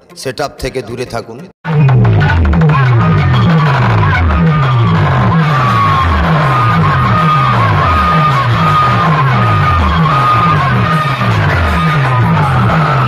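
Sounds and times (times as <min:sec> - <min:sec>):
loud dance music: 0:01.6 - 0:13.0.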